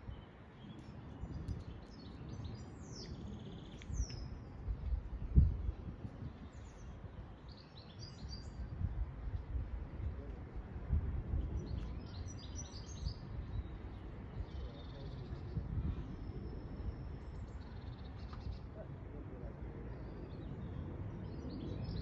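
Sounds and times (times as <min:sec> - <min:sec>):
small birds chirping: 0:00.0 - 0:09.0, 0:11.3 - 0:22.0.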